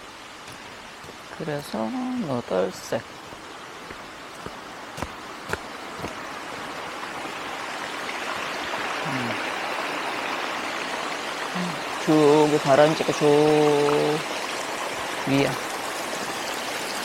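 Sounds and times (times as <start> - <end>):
spring water running and splashing: 0.0 - 17.0.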